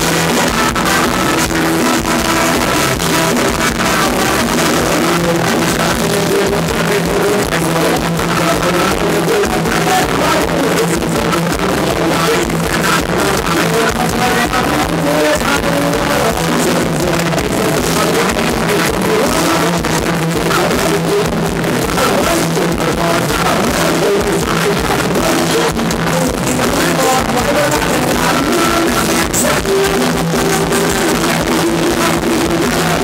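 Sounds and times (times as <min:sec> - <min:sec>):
live band dance music: 0:00.0 - 0:33.0
man singing through microphones: 0:00.0 - 0:33.0
steady drum beat: 0:00.0 - 0:33.0.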